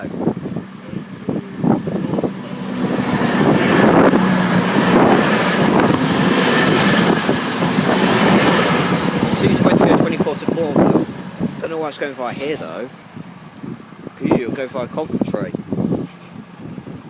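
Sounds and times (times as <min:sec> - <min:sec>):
train passing at speed: 0:00.0 - 0:14.2
train engine hum: 0:00.0 - 0:17.0.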